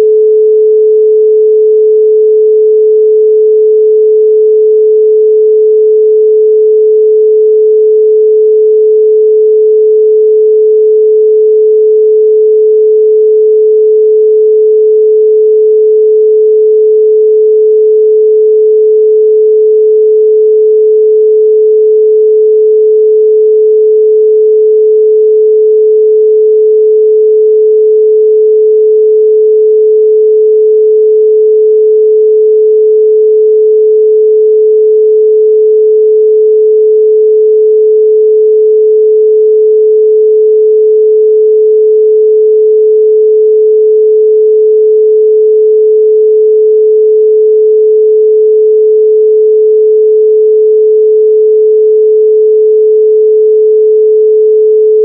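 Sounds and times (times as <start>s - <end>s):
pure sine tone: 0.0s - 55.0s.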